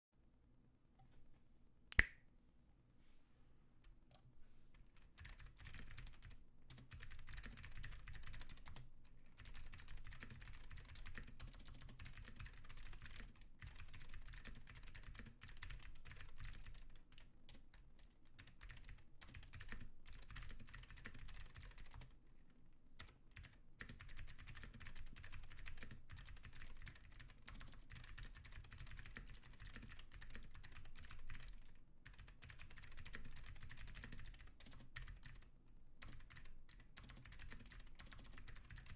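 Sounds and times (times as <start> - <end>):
fast clicky keyboard typing: 5.1 - 8.8, 9.4 - 22.1, 23.0 - 38.9.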